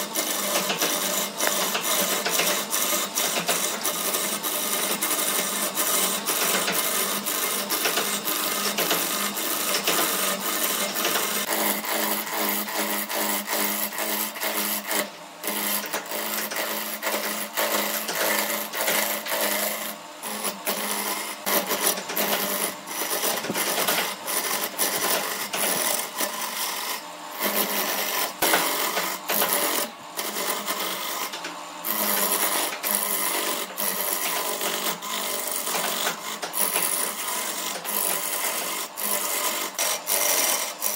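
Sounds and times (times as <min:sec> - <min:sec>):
lathe tool scraping wood: 0:00.0 - 0:40.9.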